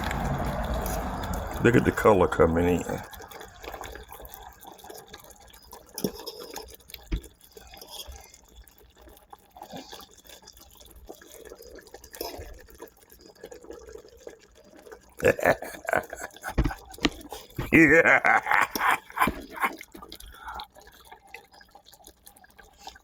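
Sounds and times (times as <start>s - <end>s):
gravy bubbling and popping: 0.0s - 23.0s.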